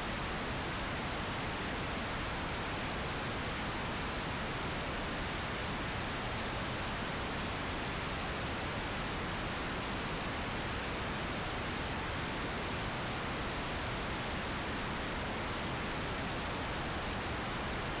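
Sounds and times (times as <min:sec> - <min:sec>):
jet airflow and engine noise: 0:00.0 - 0:18.0.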